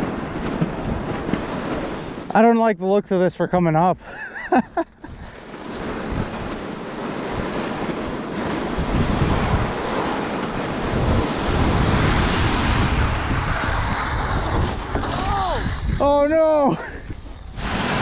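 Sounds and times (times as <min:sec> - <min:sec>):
wind buffeting microphone: 0:00.0 - 0:02.4, 0:04.8 - 0:18.0.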